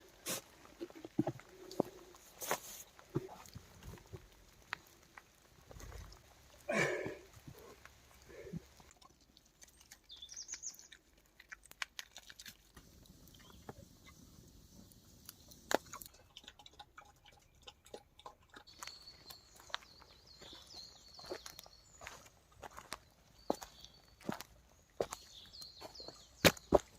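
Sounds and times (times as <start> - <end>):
boar chewing and rooting: 0.0 - 26.9.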